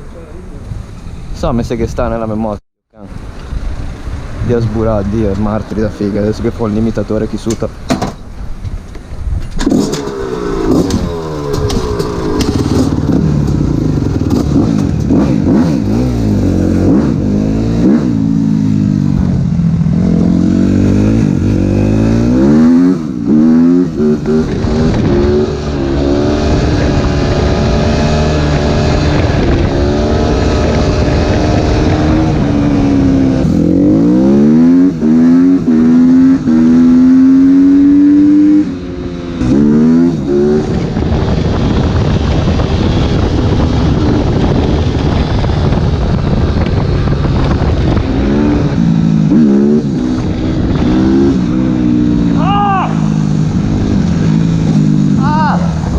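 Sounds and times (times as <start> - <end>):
motocross engine revving: 9.6 - 45.8, 46.6 - 55.9.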